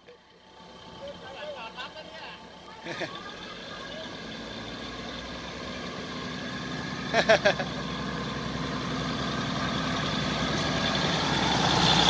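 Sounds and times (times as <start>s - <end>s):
diesel railcar engine running: 0.0s - 12.0s.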